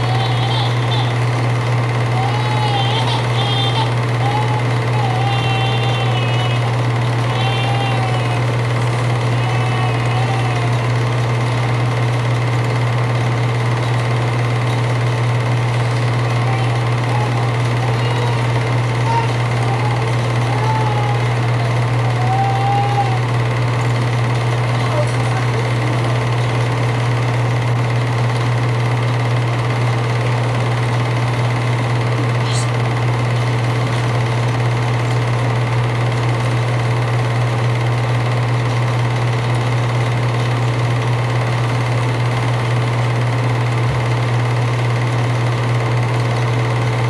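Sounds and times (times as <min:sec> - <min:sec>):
film projector whirring: 0:00.0 - 0:47.0
loud low hum: 0:00.0 - 0:47.0.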